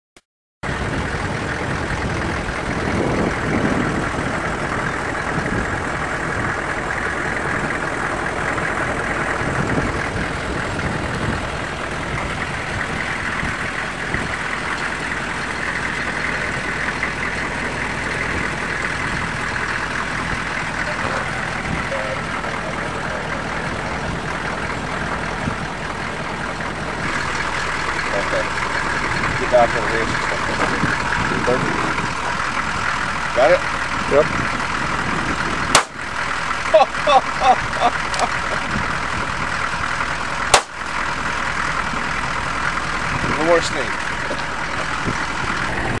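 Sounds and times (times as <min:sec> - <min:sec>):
vehicle engine idling: 0:00.6 - 0:46.0.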